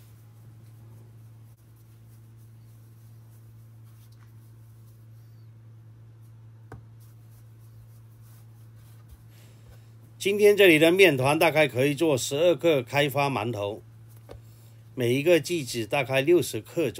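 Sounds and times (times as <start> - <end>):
hands rubbing dough: 0.0 - 12.1, 13.0 - 15.8
steady low hum: 0.0 - 16.9.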